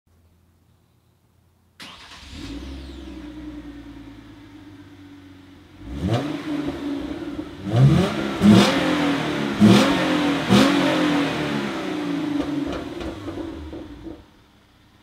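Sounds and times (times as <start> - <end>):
car engine idling: 1.8 - 15.0
car engine starting: 1.8 - 15.0.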